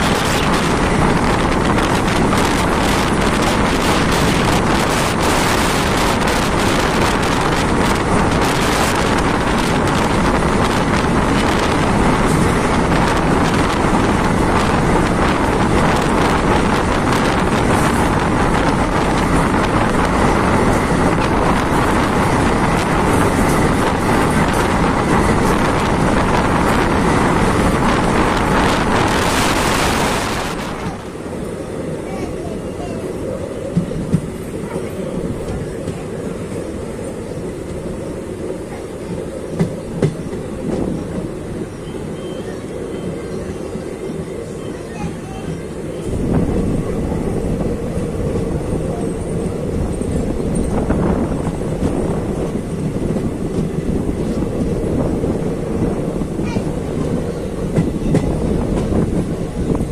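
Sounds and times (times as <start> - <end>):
train running on track: 0.0 - 59.9
wind buffeting microphone: 0.0 - 59.9.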